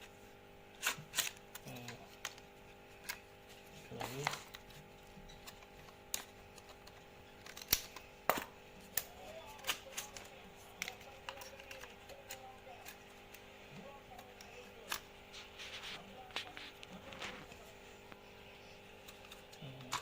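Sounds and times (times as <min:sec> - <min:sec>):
scissors snipping packaging: 0:00.8 - 0:02.4, 0:03.0 - 0:17.6, 0:19.0 - 0:20.0.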